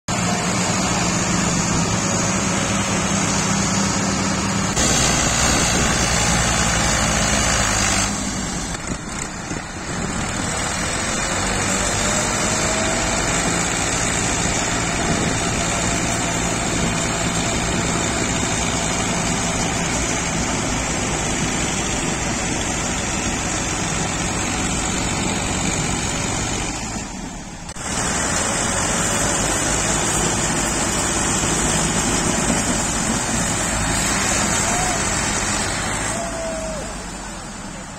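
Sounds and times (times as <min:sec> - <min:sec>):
tractor engines straining: 0:00.1 - 0:37.9.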